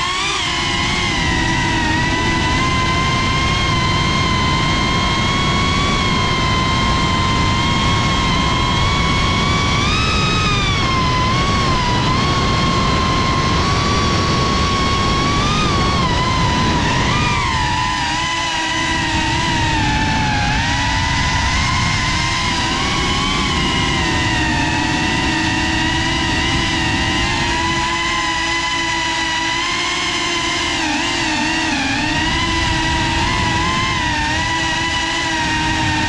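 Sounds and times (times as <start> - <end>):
quadcopter motors whining: 0.0 - 36.0.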